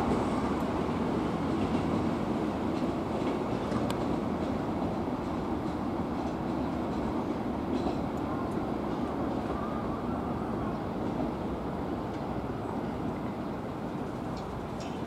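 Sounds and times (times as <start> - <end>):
electric train wheels rumbling on rail: 0.0 - 15.0.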